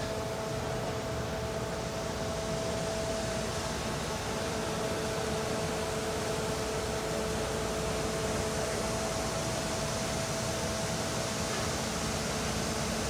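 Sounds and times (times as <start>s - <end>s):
two-tone mechanical hum: 0.0s - 13.0s.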